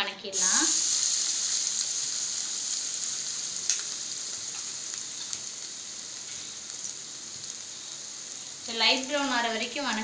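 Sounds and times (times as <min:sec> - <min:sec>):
garlic sizzling in oil: 0:00.0 - 0:10.0.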